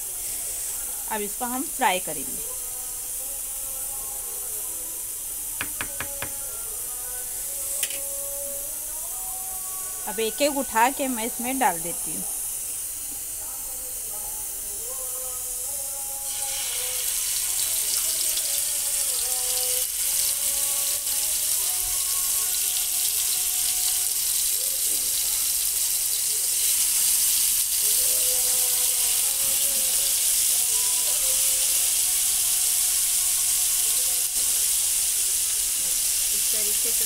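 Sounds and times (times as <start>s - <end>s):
chicken sizzling in a frying pan: 0.0s - 37.0s.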